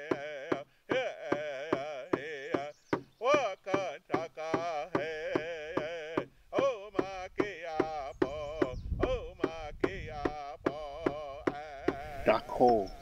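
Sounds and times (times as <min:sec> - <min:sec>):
drum beating steadily: 0:00.0 - 0:13.0.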